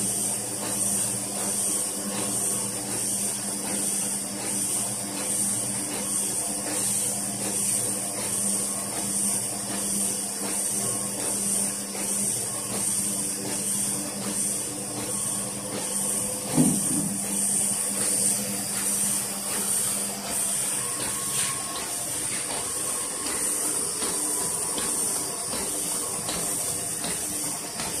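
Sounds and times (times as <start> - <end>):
printing press humming: 0.0 - 28.0.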